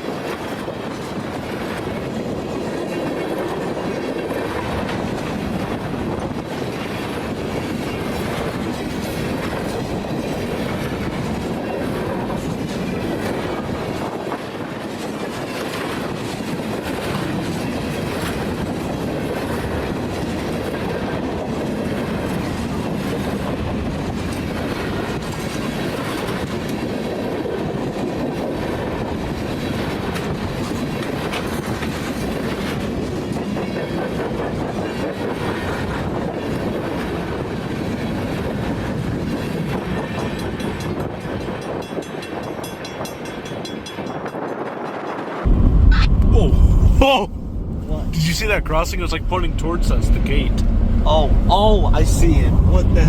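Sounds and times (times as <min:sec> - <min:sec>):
train wheels clacking on rails: 0:00.0 - 0:45.4.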